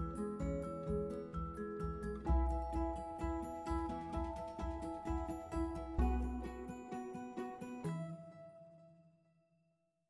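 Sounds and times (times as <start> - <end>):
plucked instrumental music: 0.0 - 9.1.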